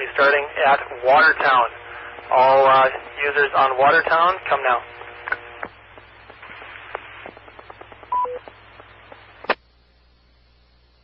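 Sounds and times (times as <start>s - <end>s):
radio channel hiss and crackle: 0.0s - 11.0s
radio click: 0.2s - 9.7s.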